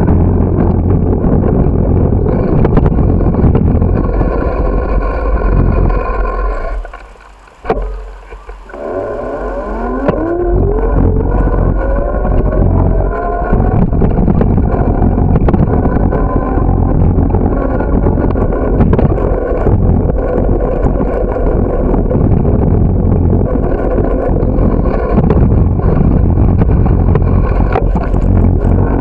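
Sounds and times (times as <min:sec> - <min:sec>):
bicycle road rumble: 0:00.0 - 0:29.0
rising whine: 0:00.0 - 0:29.0
wind buffeting microphone: 0:00.0 - 0:29.0.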